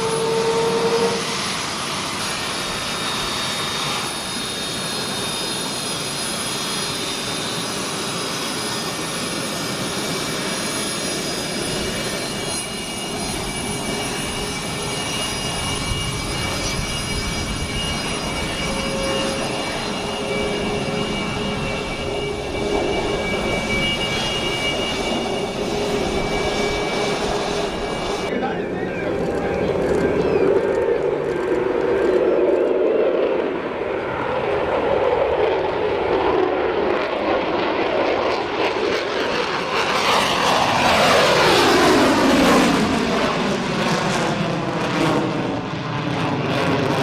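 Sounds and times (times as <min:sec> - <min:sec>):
jet engine roar: 0:00.0 - 0:47.0.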